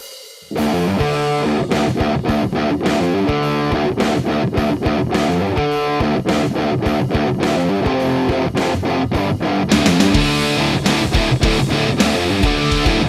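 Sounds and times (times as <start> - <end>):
electric guitar riff: 0.5 - 13.0.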